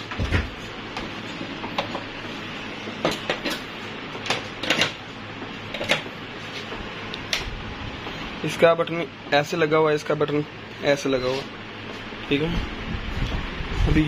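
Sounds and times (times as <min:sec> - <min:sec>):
mains hum and hiss: 0:00.0 - 0:14.0.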